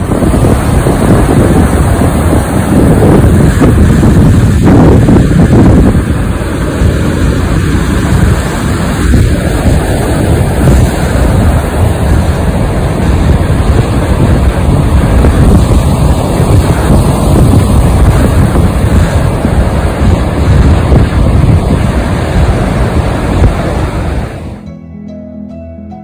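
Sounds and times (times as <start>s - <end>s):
surf breaking over rocks: 0.0s - 24.6s
wind buffeting microphone: 0.0s - 24.6s.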